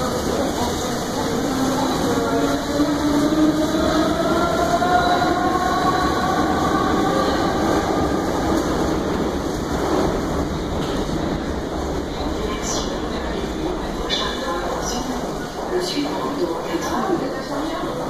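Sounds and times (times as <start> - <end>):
metro train pulling away: 0.0 - 18.0.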